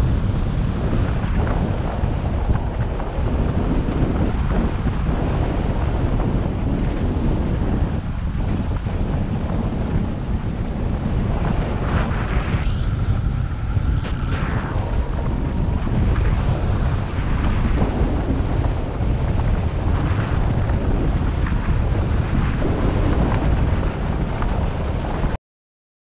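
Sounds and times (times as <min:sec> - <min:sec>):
heavy wind rush on microphone: 0:00.0 - 0:25.4.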